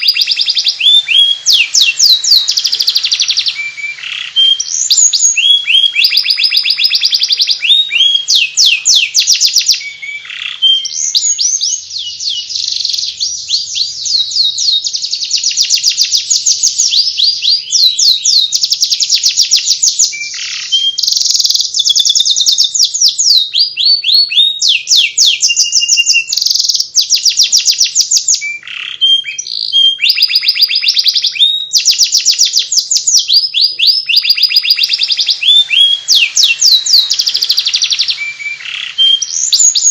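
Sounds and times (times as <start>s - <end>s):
canary singing rapid twittering: 0.0s - 39.9s.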